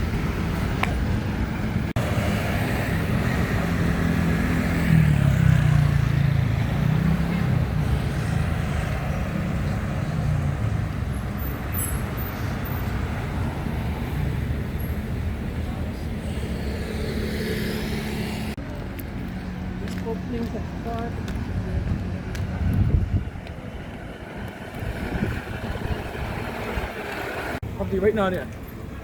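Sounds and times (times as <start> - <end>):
street noise: 0.0 - 29.0
vehicle engine humming: 0.0 - 29.0.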